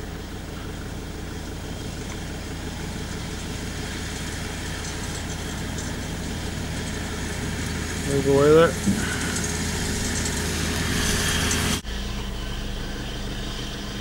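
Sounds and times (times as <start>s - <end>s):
tractor and mower drone: 0.0s - 14.0s.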